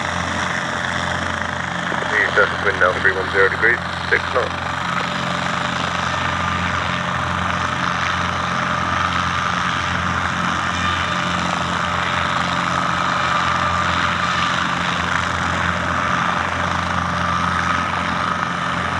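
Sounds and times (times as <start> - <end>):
light aircraft engine running: 0.0 - 18.9.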